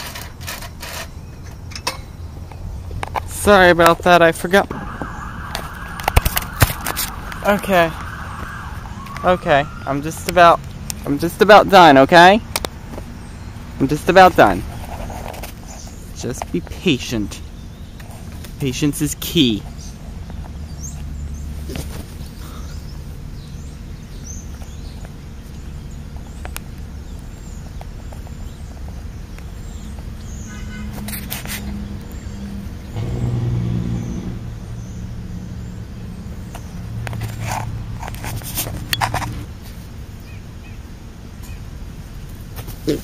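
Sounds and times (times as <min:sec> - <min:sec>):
passing vehicles hum: 0:00.0 - 0:43.0.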